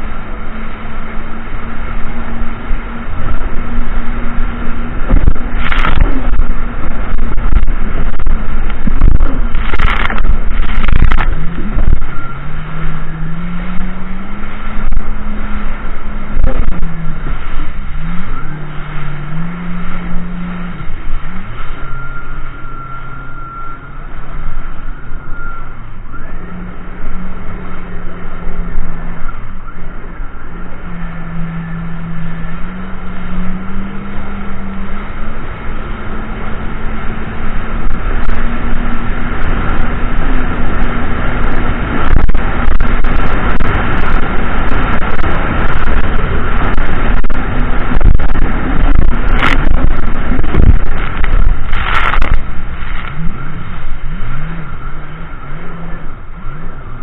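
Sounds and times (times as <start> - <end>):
jet ski engine running: 0.0 - 57.0
water rushing against hull: 0.0 - 57.0.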